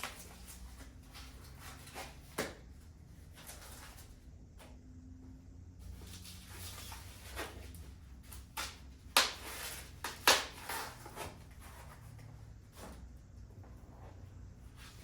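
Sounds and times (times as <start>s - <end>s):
low steady room hum: 0.0s - 15.0s.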